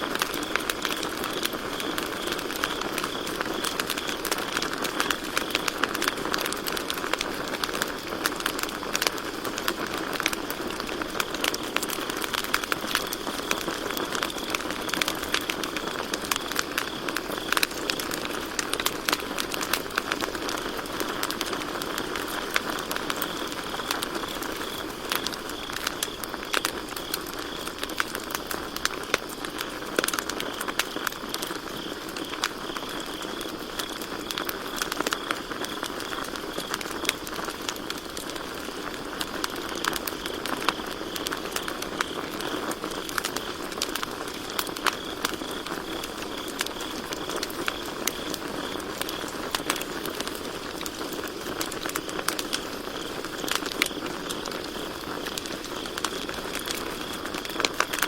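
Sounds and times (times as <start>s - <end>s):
campfire crackling and popping: 0.0s - 58.0s
crickets chirring: 0.0s - 58.0s.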